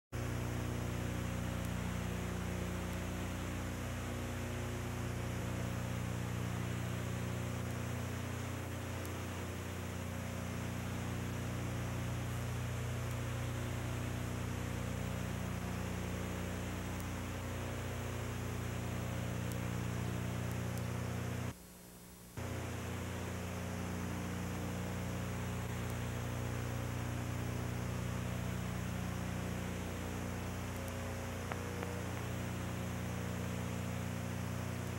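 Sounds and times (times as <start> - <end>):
even hiss: 0.2 - 21.6, 22.4 - 34.9
electrical mains hum: 0.2 - 34.9.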